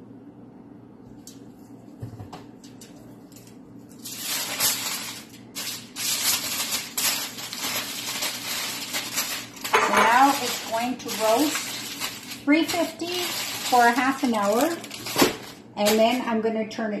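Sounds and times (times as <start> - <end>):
aluminium foil crinkling: 2.6 - 16.4.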